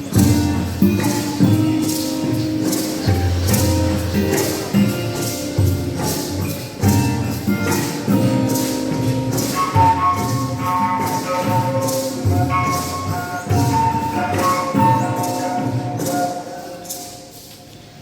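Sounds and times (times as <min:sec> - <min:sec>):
held melodic line: 0:00.0 - 0:17.0
shaken rattling percussion: 0:00.0 - 0:18.0.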